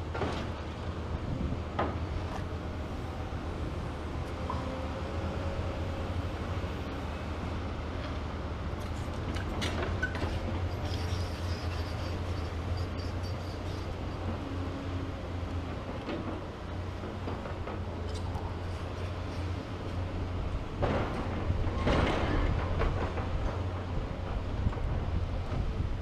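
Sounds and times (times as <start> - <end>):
excavator diesel engines: 0.0 - 26.0.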